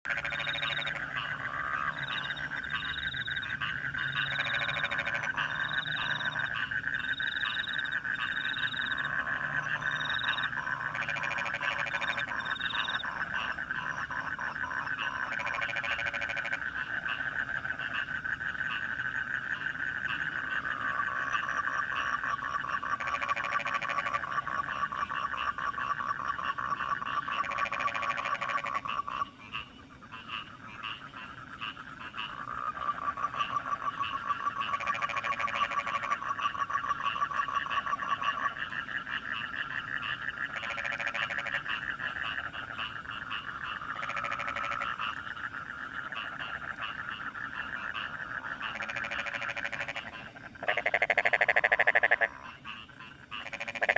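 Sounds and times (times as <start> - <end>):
frogs and crickets trilling: 0.0 - 53.9
rattling frog croak: 0.0 - 53.9.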